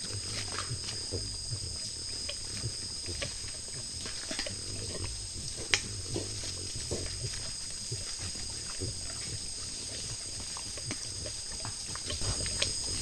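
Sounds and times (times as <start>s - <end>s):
animal chewing: 0.0s - 13.0s
high-pitched insect chorus: 0.0s - 13.0s.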